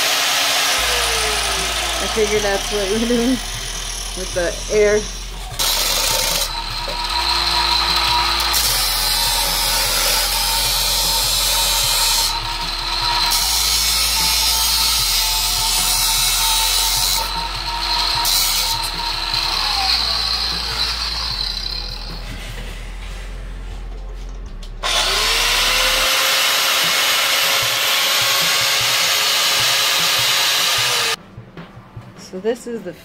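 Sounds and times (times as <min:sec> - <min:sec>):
grinding wheel on brass: 0:00.0 - 0:22.4, 0:24.8 - 0:31.2
angle grinder whining: 0:00.0 - 0:22.6, 0:24.8 - 0:31.2.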